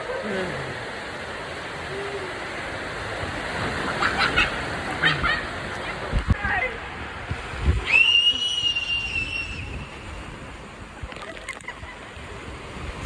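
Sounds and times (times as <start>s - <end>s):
water park noise and splashing: 0.0s - 13.0s.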